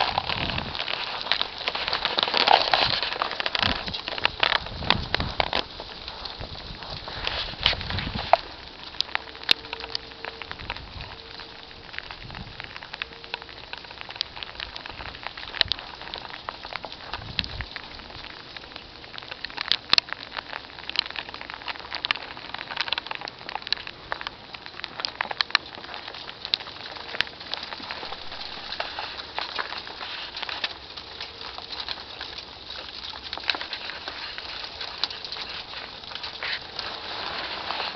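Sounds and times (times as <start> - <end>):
freezing rain pattering: 0.0 - 37.9.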